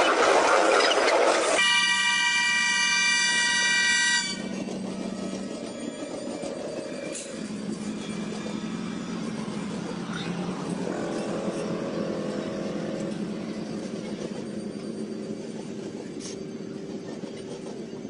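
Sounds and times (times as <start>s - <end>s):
diesel locomotive engine droning: 0.0s - 18.0s
train wagons rolling by: 0.0s - 18.0s.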